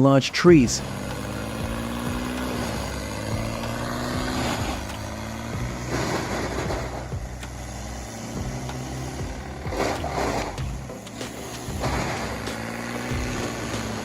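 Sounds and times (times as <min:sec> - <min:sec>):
wood chipper engine running: 0:00.0 - 0:14.0
wood being shredded: 0:00.4 - 0:14.0.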